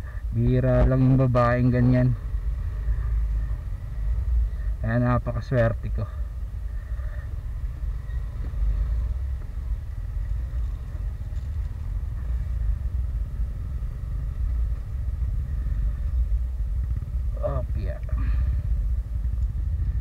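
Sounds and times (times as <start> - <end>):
motorcycle engine rumble: 0.0 - 20.0.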